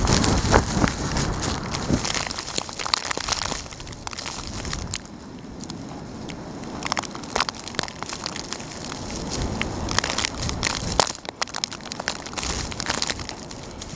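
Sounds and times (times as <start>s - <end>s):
footsteps crunching snow: 0.0s - 13.9s.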